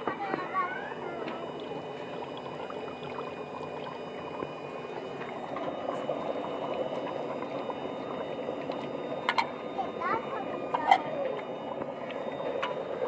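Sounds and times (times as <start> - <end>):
curry bubbling in a pot: 0.0 - 13.0.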